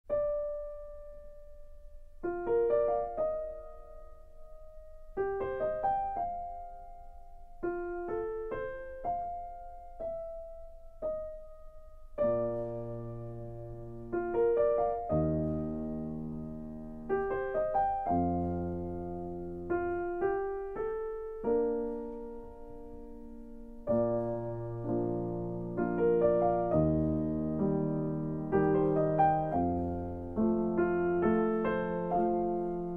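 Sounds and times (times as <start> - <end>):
gentle solo piano: 0.0 - 32.9.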